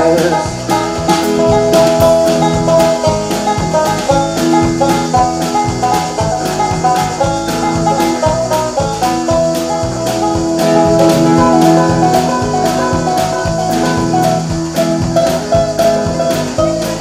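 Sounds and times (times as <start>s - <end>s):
country band instrumental: 0.0s - 17.0s
drum kit beat: 0.0s - 17.0s.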